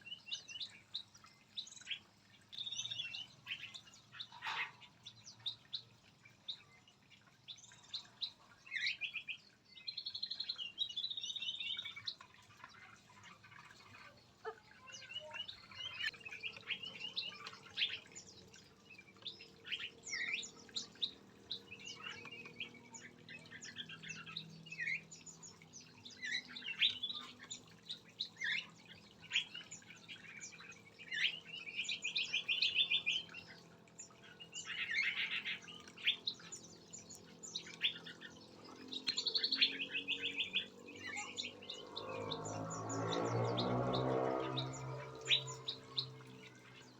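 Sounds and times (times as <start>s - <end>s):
songbirds chirping and trilling: 0.0s - 46.9s.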